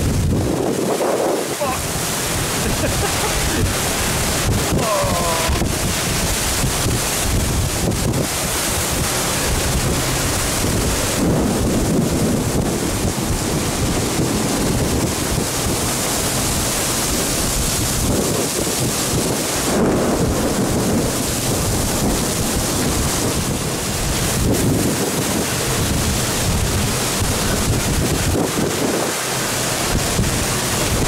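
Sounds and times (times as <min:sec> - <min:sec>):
torrential rain pouring: 0:00.0 - 0:31.0
wind buffeting microphone: 0:00.0 - 0:31.0.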